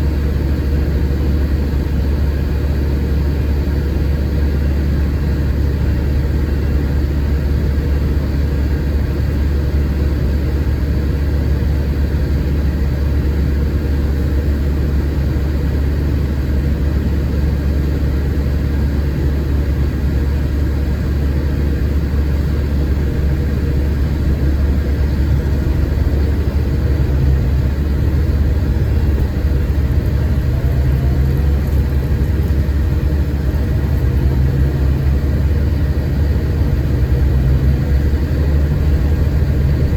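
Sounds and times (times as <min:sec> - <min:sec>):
diesel engine rumble: 0:00.0 - 0:39.9
road and drivetrain noise: 0:00.0 - 0:39.9.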